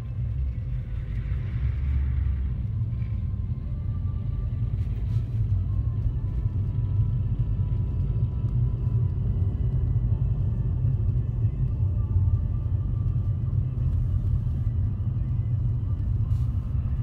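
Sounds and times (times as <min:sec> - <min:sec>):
vehicle road rumble: 0:00.0 - 0:17.0.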